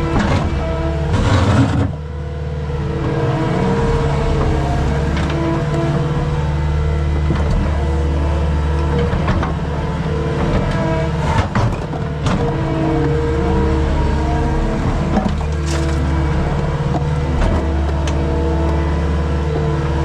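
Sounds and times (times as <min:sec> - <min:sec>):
skid steer engine running: 0:00.0 - 0:20.0.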